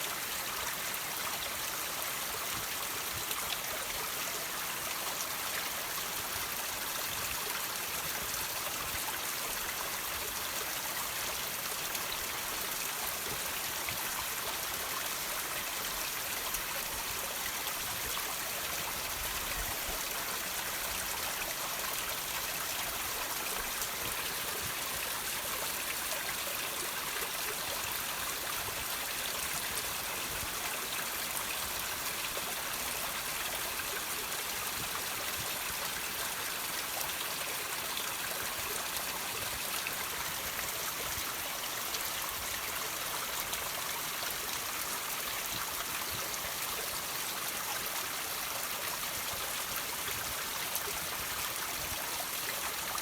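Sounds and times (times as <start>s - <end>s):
water trickling over rocks: 0.0s - 53.0s.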